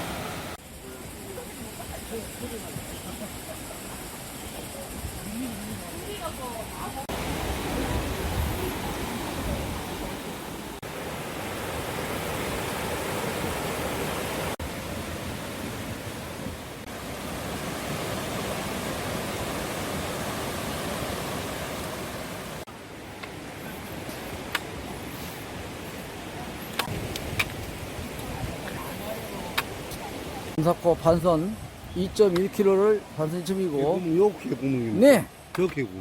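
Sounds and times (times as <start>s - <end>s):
stream rushing water: 0.0s - 36.0s.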